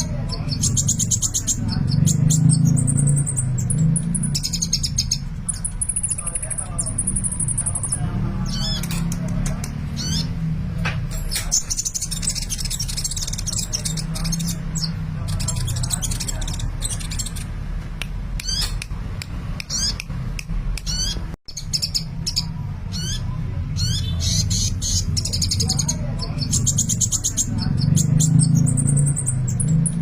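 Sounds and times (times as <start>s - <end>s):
bird chirps and trills: 0.0s - 17.7s, 18.4s - 18.9s, 19.6s - 30.0s.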